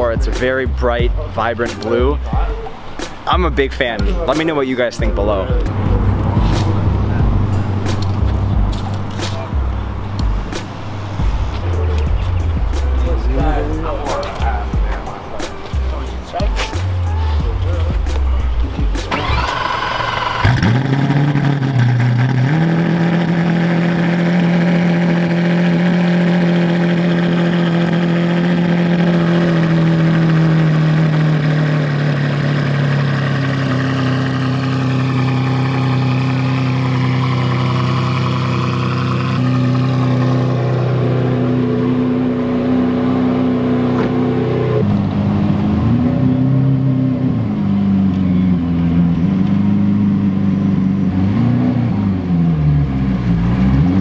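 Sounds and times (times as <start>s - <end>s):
car engine starting and idling: 0.0s - 54.0s
engine throttle blips: 0.0s - 54.0s.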